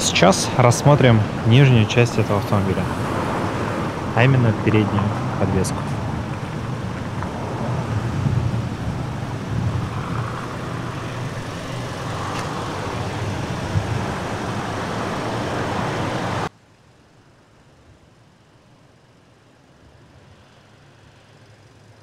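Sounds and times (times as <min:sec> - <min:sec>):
faint background noise: 0:00.0 - 0:22.0
road traffic rumble: 0:00.0 - 0:22.0.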